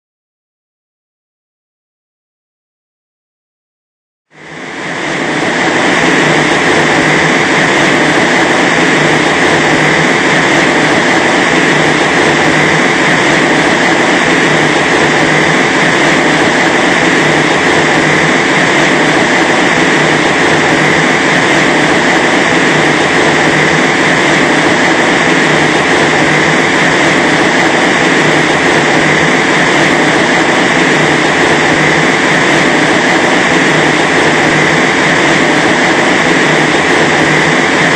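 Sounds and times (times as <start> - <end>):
loud rushing wind: 4.3 - 37.9.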